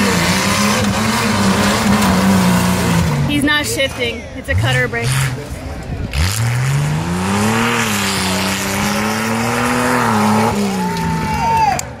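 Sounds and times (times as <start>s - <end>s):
truck engine revving high: 0.0s - 11.4s.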